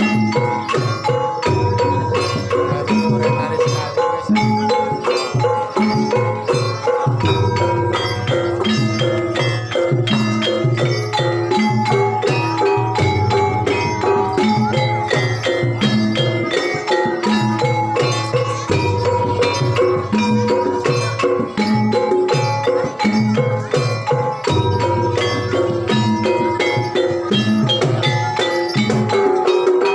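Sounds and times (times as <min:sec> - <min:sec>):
gamelan music: 0:00.0 - 0:29.9.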